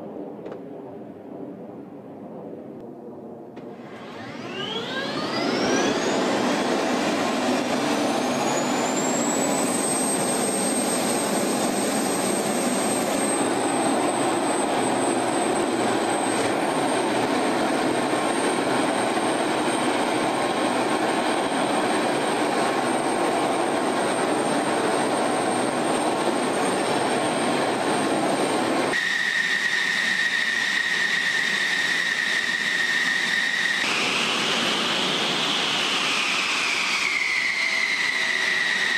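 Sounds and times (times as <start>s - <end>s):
jet engine whine and rush: 0.0s - 38.9s.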